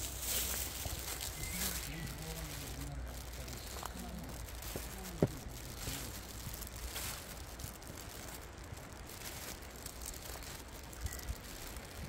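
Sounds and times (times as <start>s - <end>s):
footsteps crunching through leaf litter: 0.0s - 12.0s.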